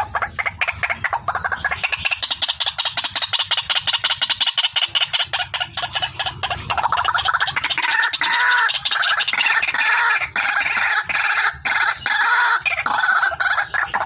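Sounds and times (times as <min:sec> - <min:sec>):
waterhen calling harshly: 0:00.0 - 0:14.0.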